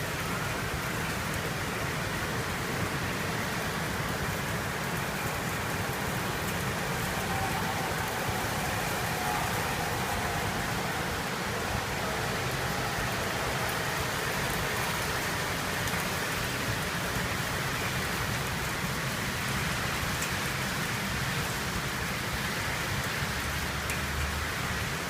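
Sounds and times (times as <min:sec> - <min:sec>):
heavy rain pattering: 0:00.0 - 0:25.0.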